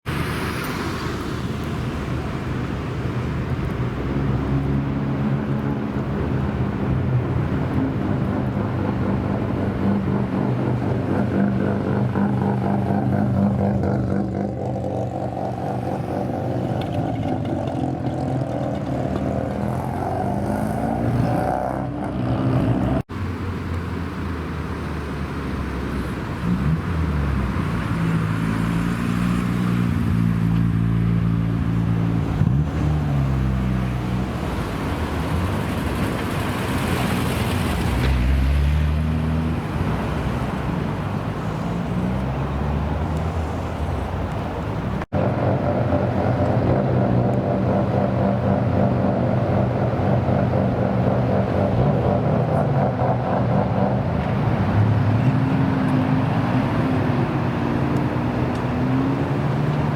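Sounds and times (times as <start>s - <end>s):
car engines idling and revving: 0.0s - 59.9s.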